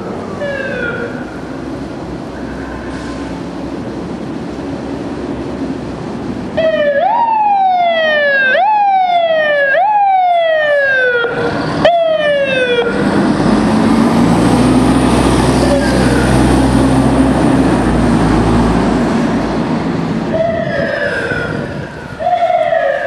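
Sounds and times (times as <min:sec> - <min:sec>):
fire engine rumbling: 0:00.0 - 0:23.0.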